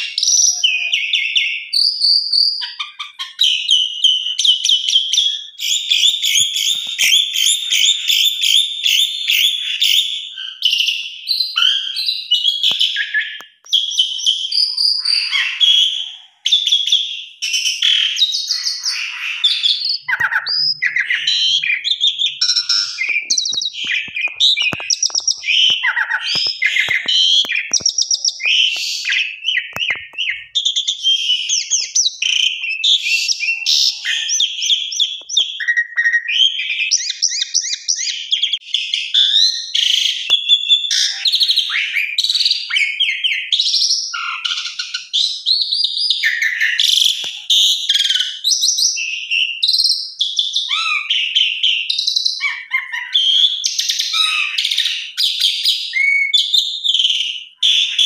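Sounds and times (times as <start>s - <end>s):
starling singing: 0.0s - 49.6s.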